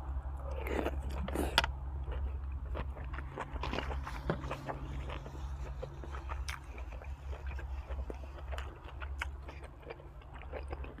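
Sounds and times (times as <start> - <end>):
person chewing food: 0.0 - 11.0
steady low hum: 0.0 - 11.0.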